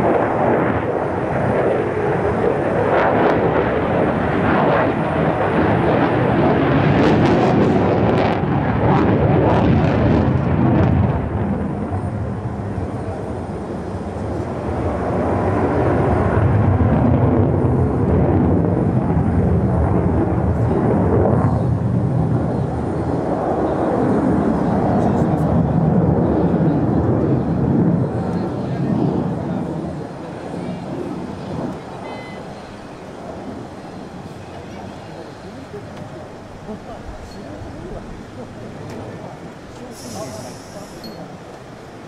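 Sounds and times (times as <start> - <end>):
loud jet rumble: 0.0 - 42.0.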